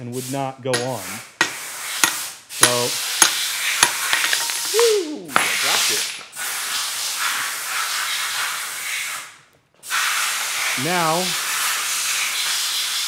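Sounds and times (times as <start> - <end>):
loud steady hiss: 0.0 - 13.0.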